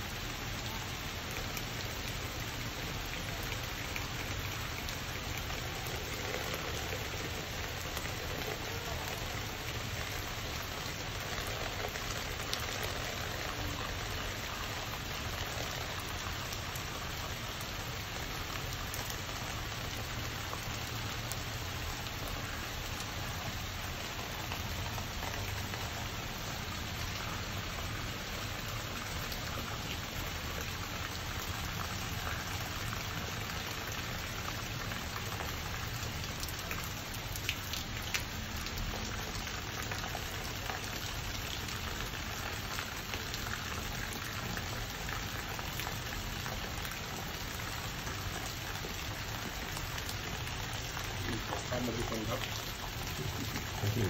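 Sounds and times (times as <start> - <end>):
heavy rain on paving and leaves: 0.0 - 54.0.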